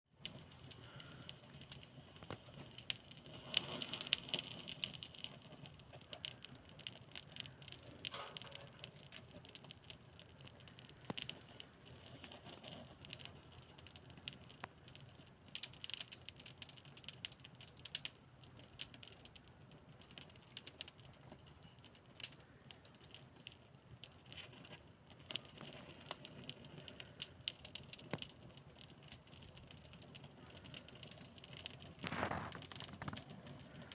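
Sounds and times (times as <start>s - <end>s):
wood fire crackling: 0.1s - 33.9s.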